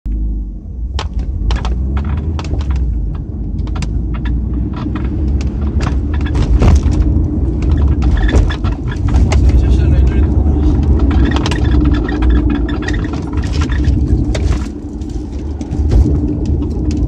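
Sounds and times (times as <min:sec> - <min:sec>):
car low rumble: 0:00.0 - 0:17.0
car hatch squeaking and creaking: 0:00.9 - 0:17.0.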